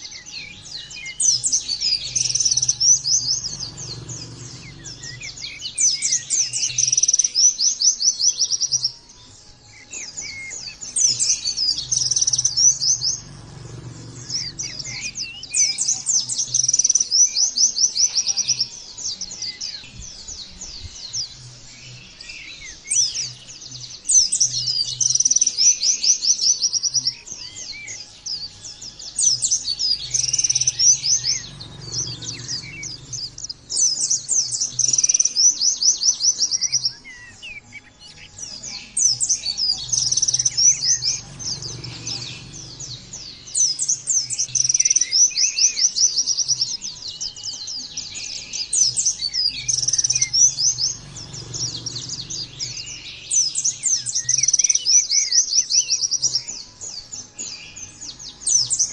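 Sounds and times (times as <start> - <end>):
white-eye bird chattering song: 0.0 - 58.9.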